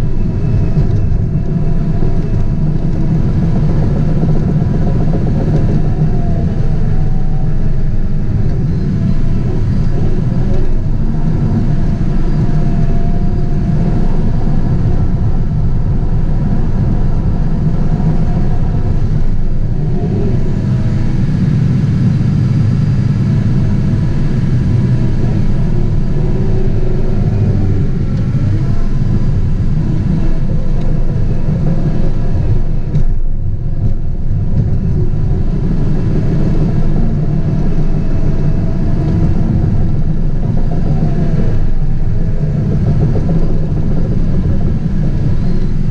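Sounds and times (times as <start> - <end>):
diesel engine droning under load: 0.0 - 45.9
high wavering whine: 0.0 - 45.9.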